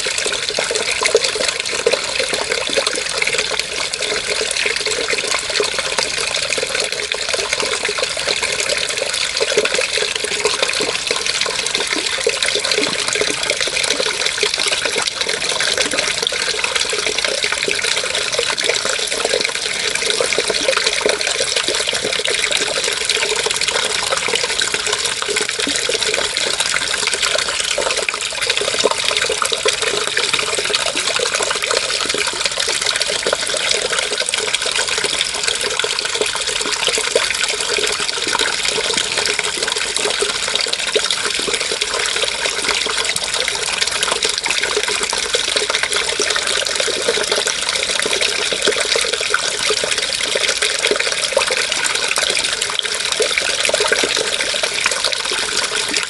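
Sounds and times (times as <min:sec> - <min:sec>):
water running and splashing: 0:00.0 - 0:56.0.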